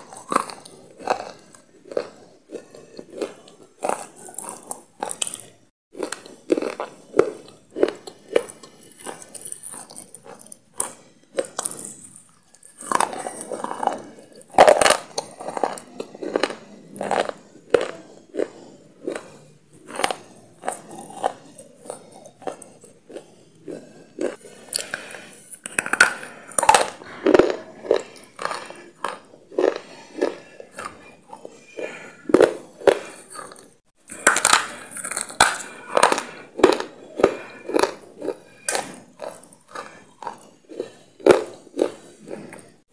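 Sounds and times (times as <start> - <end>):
crunchy food crunching: 0.0 - 42.8
quiet chewing: 0.0 - 42.9.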